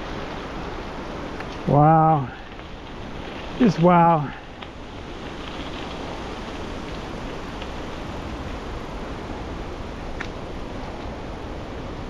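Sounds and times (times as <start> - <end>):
bicycle tyres on wet gravel: 0.0 - 12.0
rain and wind: 0.0 - 12.0.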